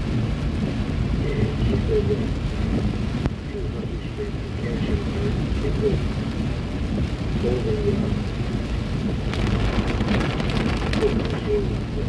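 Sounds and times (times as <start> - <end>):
car rolling on wet road: 0.0 - 12.0
rain drumming on car roof: 0.0 - 12.0.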